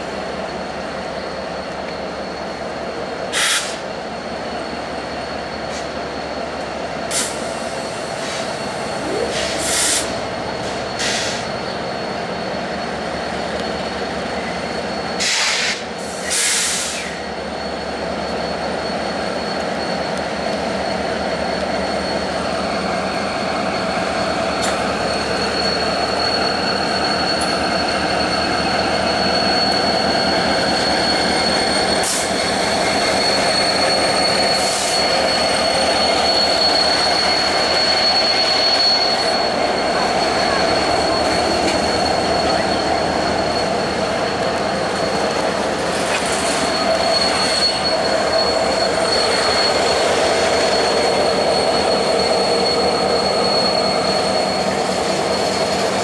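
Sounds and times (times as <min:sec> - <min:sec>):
train wheels squealing on rails: 0:00.0 - 0:56.0.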